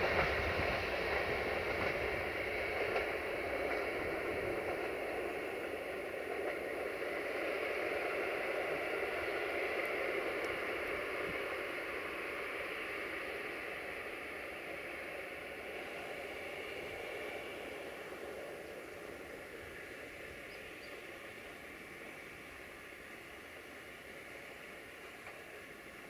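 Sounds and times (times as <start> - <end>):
train coaches rolling on track: 0.0 - 26.0.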